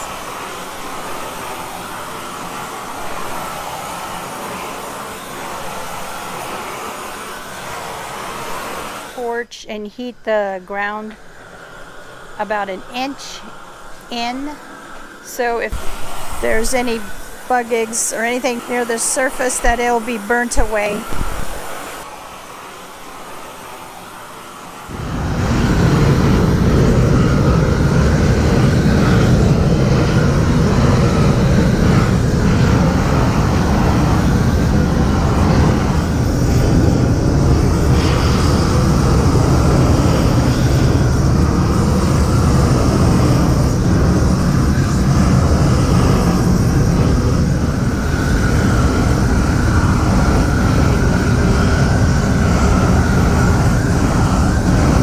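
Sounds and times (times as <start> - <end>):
propane torch roaring: 0.0 - 55.0.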